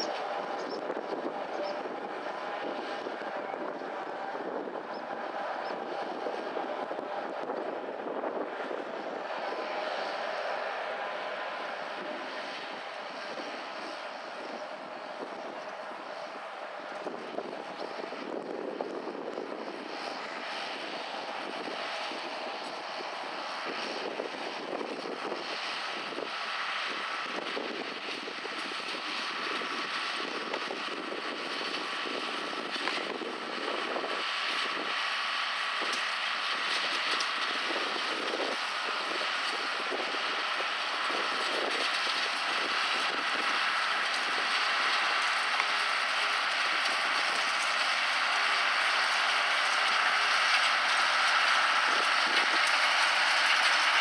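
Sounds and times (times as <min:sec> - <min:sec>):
tractor running steadily: 0:00.0 - 0:54.0.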